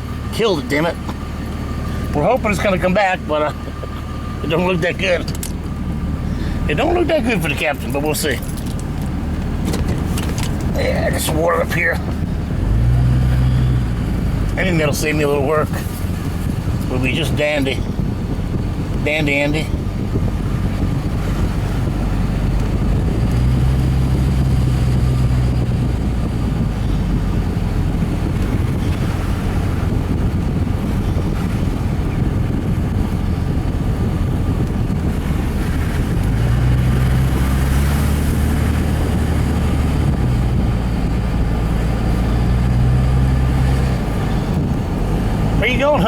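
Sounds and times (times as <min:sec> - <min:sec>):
truck engine and road noise: 0:00.0 - 0:46.0.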